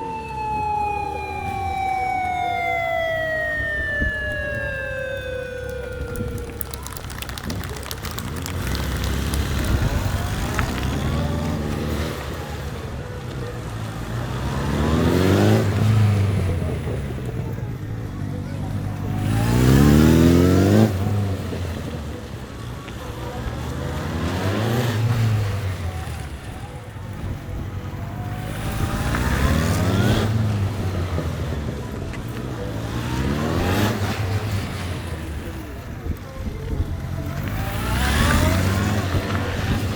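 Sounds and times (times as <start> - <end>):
motorcycle engines accelerating: 0.0 - 39.9.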